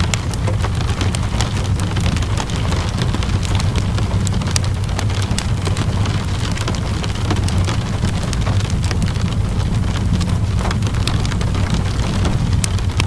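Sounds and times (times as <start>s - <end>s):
fire popping and crackling: 0.0s - 13.0s
low steady rumble: 0.0s - 13.0s
rainfall hiss: 0.0s - 13.0s.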